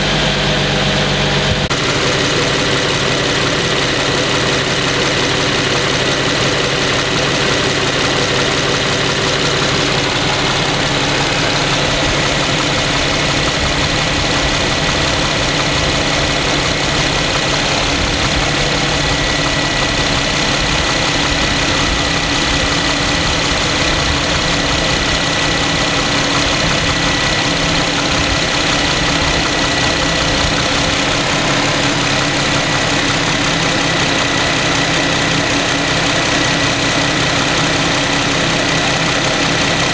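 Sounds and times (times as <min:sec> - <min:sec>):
car engine idling: 0:00.0 - 0:39.9
engine ticking and tapping: 0:00.0 - 0:39.9.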